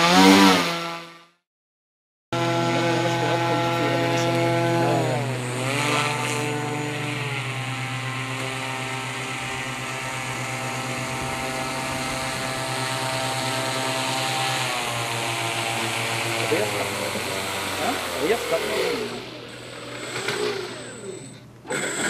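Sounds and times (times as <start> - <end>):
electric motor and propeller buzz: 0.0 - 1.4, 2.4 - 22.0.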